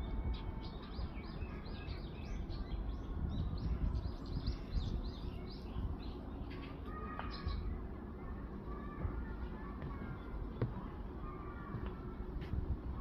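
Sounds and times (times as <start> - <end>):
birds chirping: 0.0 - 13.0
low rumbling background noise: 0.0 - 13.0.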